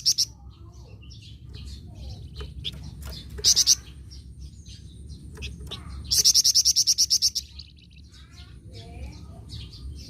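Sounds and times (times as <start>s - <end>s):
songbird chirping and trilling: 0.0s - 10.0s.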